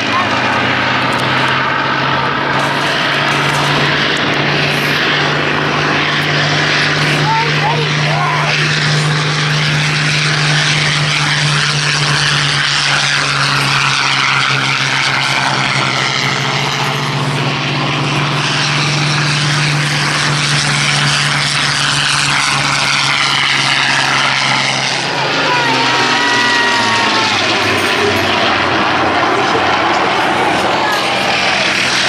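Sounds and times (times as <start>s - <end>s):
propeller engine drone: 0.0s - 32.0s.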